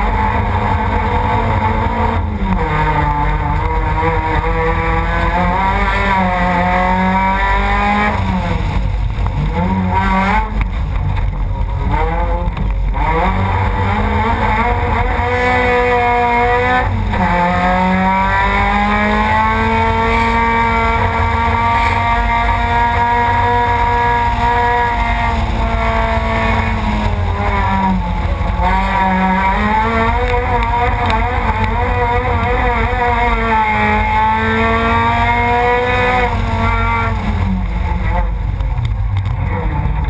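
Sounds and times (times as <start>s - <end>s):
race car engine accelerating: 0.0s - 40.0s
road and tyre noise: 0.0s - 40.0s.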